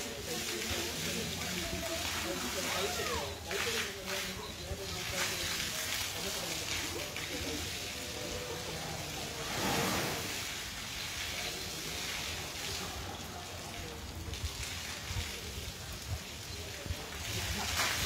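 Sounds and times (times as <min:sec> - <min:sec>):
water pattering and splashing: 0:00.0 - 0:18.0.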